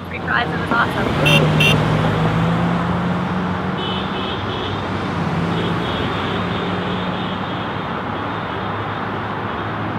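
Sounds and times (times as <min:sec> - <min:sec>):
highway traffic: 0:00.0 - 0:09.9.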